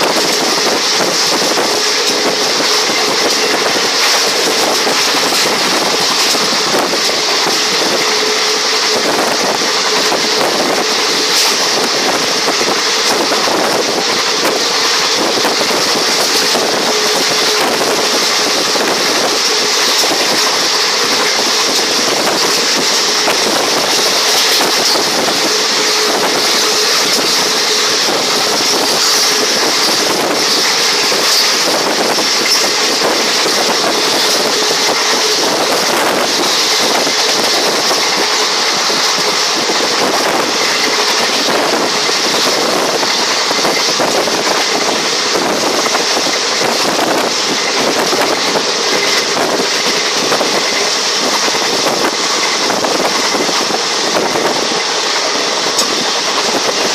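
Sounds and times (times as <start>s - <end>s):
rushing air hiss: 0.0s - 56.9s
train rolling on rails: 0.0s - 56.9s.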